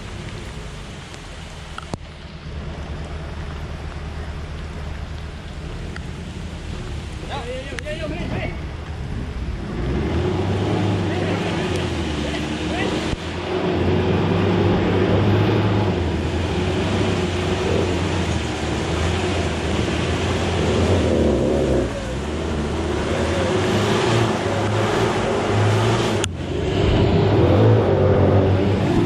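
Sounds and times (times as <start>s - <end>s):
off-road vehicle engine under load: 0.0s - 29.0s.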